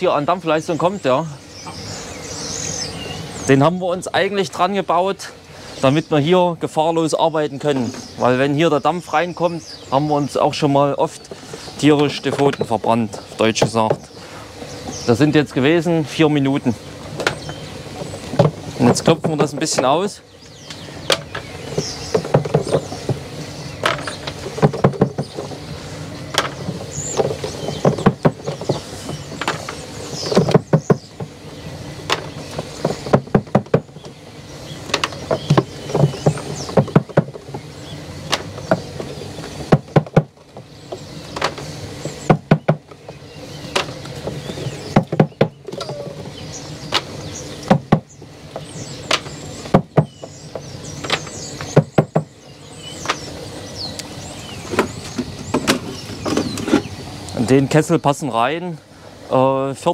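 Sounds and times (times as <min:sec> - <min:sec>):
wooden frames knocking: 0:05.9 - 0:57.9.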